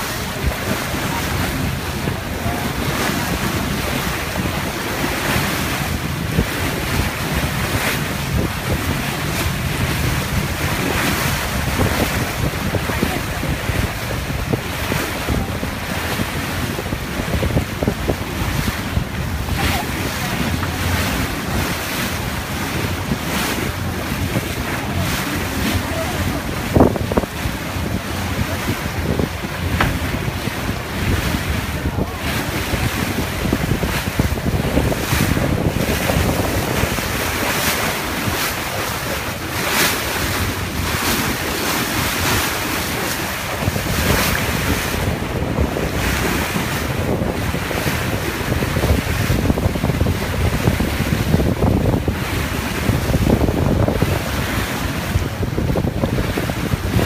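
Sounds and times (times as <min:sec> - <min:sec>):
water splashing along hull: 0:00.0 - 0:57.0
wind buffeting microphone: 0:00.0 - 0:57.0.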